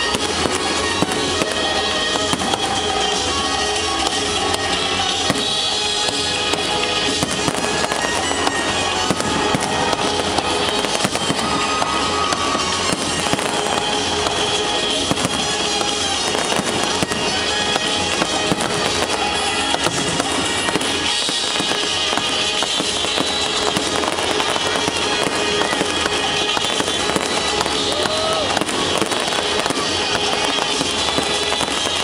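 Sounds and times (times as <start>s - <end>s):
fireworks bursting and crackling: 0.0s - 32.0s
music playing: 0.0s - 32.0s.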